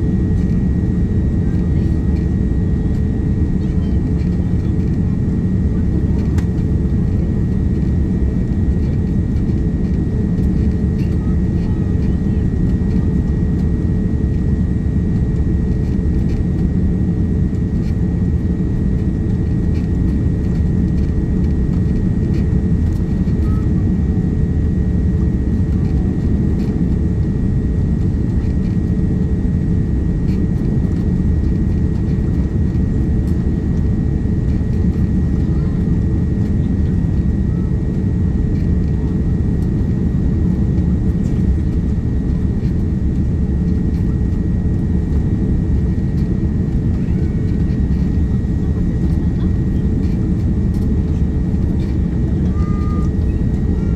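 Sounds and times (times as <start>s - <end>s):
airliner cabin rumble: 0.0s - 53.9s.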